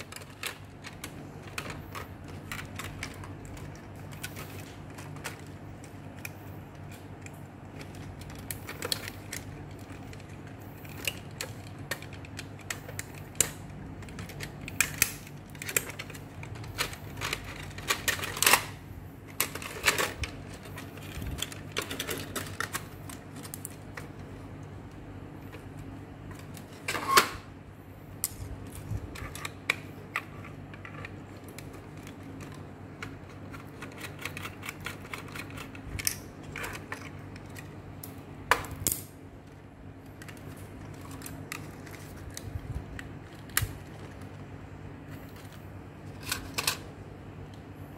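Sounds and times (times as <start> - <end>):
plastic and metal parts clicking: 0.0 - 24.3, 28.2 - 44.5.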